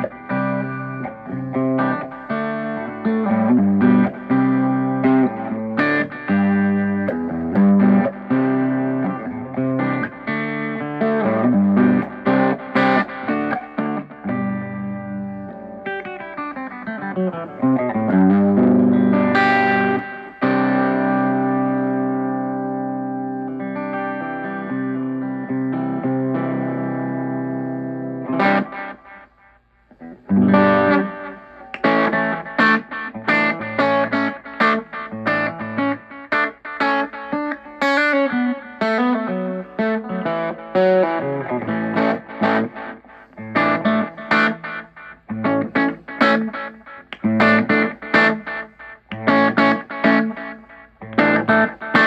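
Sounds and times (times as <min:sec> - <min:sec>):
electric guitar with tape echo: 0:00.0 - 0:52.0.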